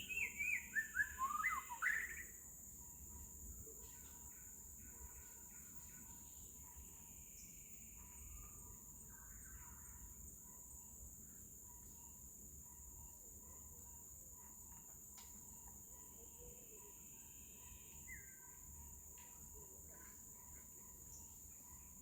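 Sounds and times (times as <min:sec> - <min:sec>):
crickets droning: 0:00.0 - 0:22.0.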